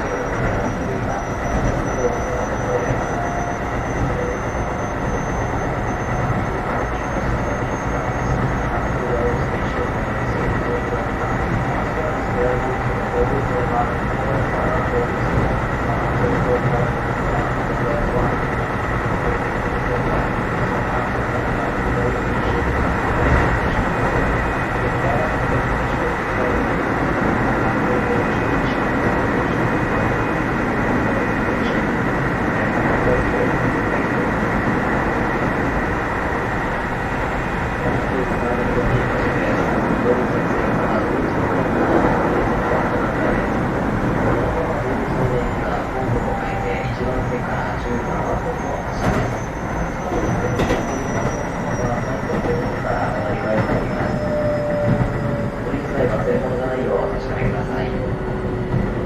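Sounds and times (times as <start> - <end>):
faint high whine: 0.0 - 59.0
train wheels rumbling on rail: 0.0 - 59.0.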